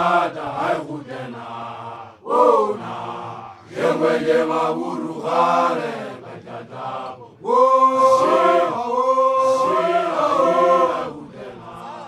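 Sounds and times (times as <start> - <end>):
group of voices chanting: 0.0 - 12.0.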